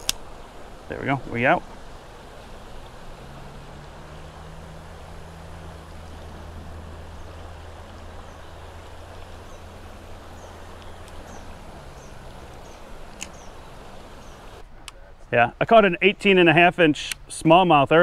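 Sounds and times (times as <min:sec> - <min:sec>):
river water rushing: 0:00.0 - 0:14.6
steady low hum: 0:00.0 - 0:15.7.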